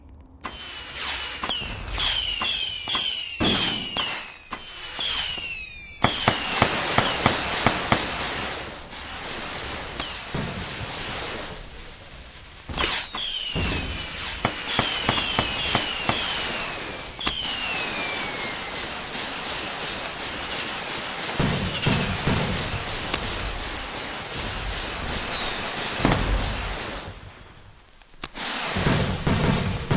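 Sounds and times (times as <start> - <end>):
falling whistles of fireworks: 0.0 - 29.9
fireworks bangs and cracks: 0.0 - 29.9.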